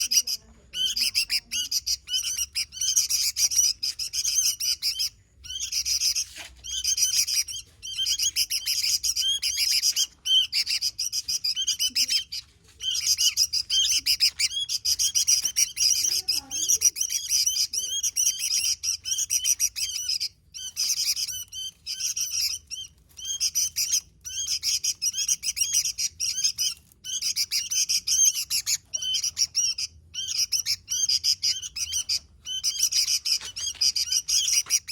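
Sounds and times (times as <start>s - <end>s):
bird singing bright chirps: 0.0s - 34.9s.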